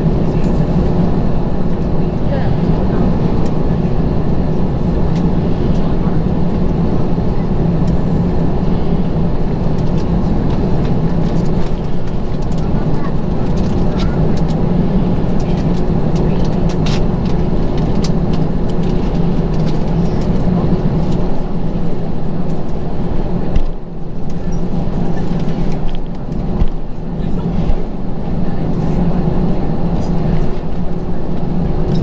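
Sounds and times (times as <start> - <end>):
jet engine cabin rumble: 0.0 - 32.0.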